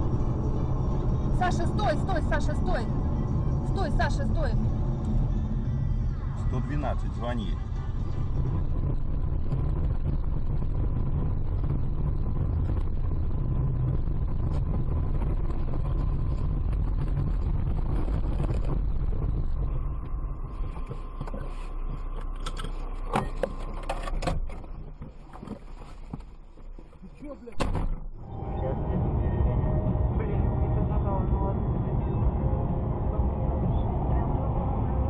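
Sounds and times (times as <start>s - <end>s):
car engine rumble: 0.0s - 35.0s
road noise: 0.0s - 35.0s.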